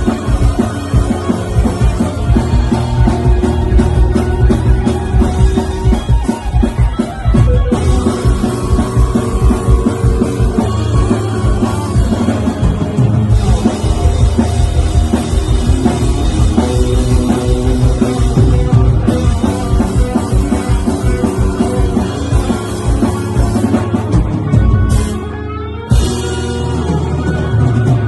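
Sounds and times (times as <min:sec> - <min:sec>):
bass guitar: 0:00.0 - 0:28.0
drum kit beat: 0:00.0 - 0:28.0
electric guitar: 0:00.0 - 0:28.0
loud rock song: 0:00.0 - 0:28.0.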